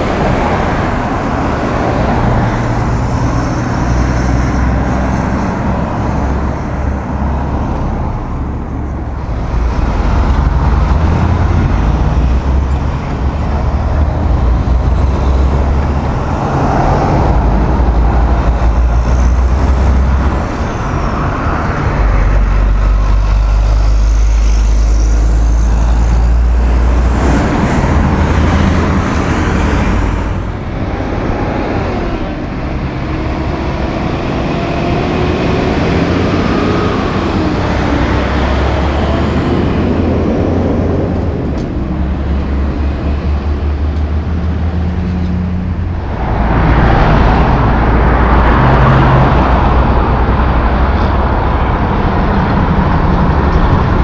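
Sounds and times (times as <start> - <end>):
cars driving past: 0.0 - 54.0
truck engine rising and falling: 0.0 - 54.0.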